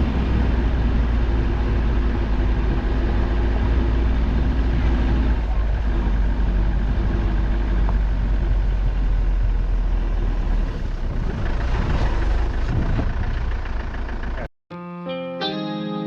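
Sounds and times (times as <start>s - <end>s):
road and wind noise: 0.0s - 14.5s
vehicle engine low rumble: 0.0s - 14.5s.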